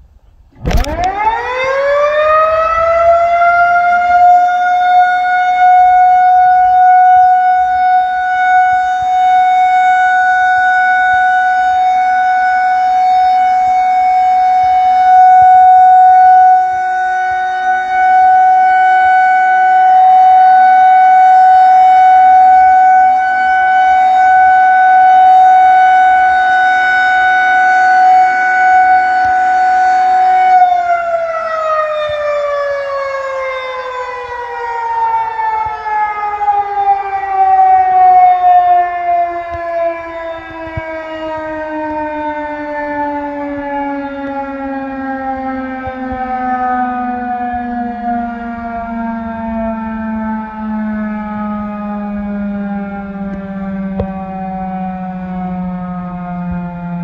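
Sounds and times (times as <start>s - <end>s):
warning siren rising to high tone: 0.6s - 57.0s.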